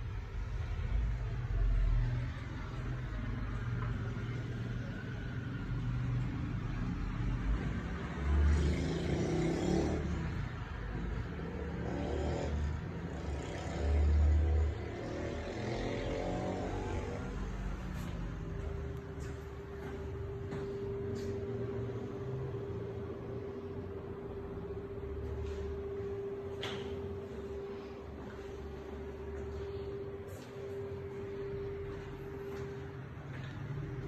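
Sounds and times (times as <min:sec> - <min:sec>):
muffled road traffic: 0:00.0 - 0:34.0.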